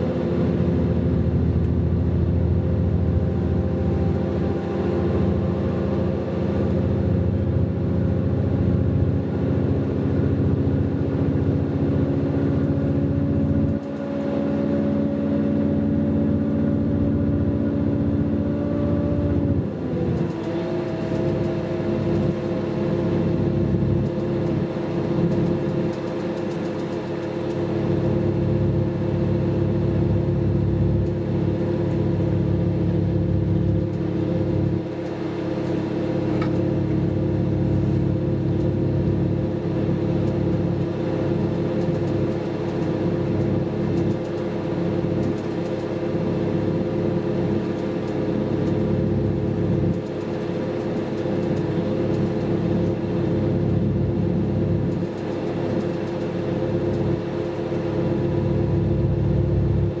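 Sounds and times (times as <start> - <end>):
train diesel engine drone: 0.0 - 60.0
train running gear rumble: 0.0 - 60.0.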